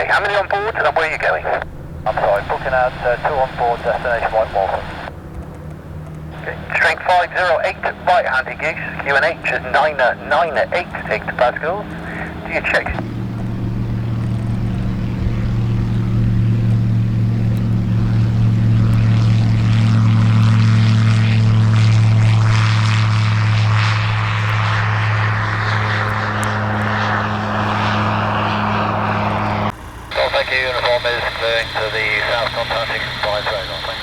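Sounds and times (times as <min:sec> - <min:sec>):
propeller aircraft engine: 0:00.0 - 0:34.0.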